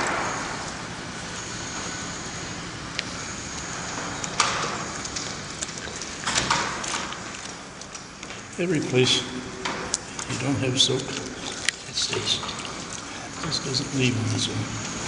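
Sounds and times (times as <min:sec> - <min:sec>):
water splashes and squelches: 0:00.0 - 0:15.0
wet cloth wrung in water: 0:00.0 - 0:15.0.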